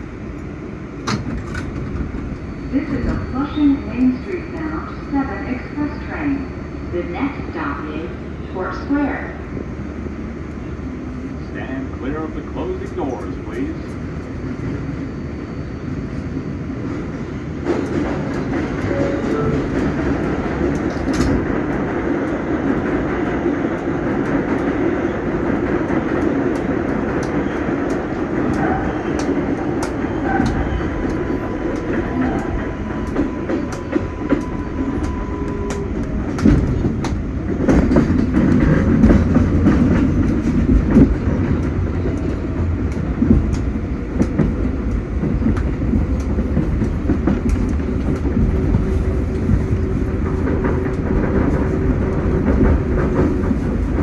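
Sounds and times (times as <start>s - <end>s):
subway train wheels rumbling: 0.0s - 54.0s.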